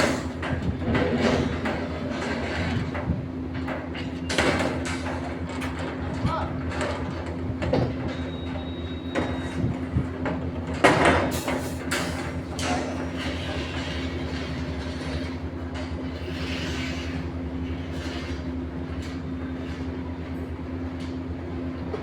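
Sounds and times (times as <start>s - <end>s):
construction machinery humming: 0.0s - 22.0s.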